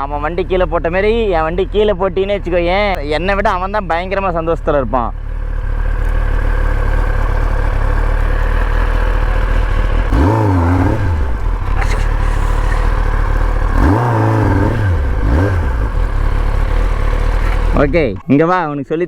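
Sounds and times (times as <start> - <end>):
motorcycle engine idling and revving: 0.0 - 18.3.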